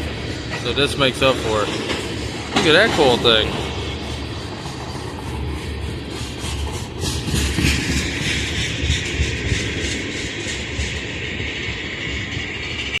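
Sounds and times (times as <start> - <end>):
rumble and hiss of wheels on rail: 0.0 - 13.0
train wheels clacking over rail joints: 0.0 - 13.0.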